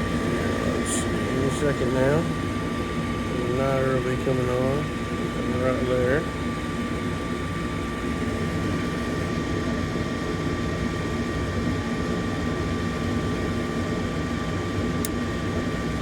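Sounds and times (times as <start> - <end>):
furnace fan whirring hum: 0.0 - 16.0.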